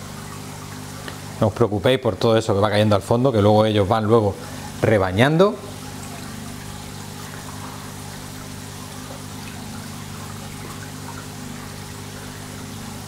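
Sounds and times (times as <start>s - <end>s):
aquarium filter water running: 0.0s - 13.0s
low steady hum: 0.0s - 13.0s.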